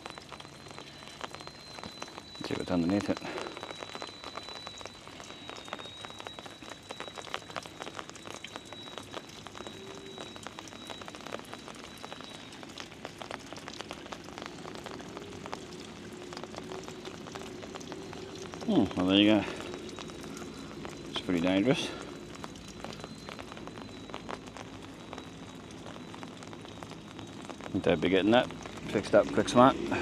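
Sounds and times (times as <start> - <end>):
faint high steady tone: 0.0 - 30.0
rain drops pattering: 0.0 - 30.0.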